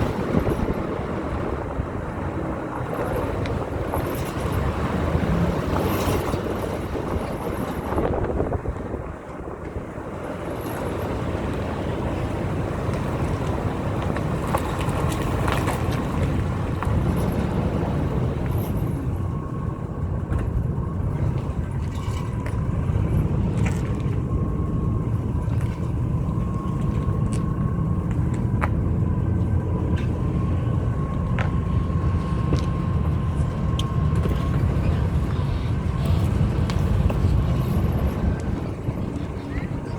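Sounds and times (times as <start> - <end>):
thin steady whine: 0.0 - 39.9
truck engine low rumble: 0.0 - 39.9.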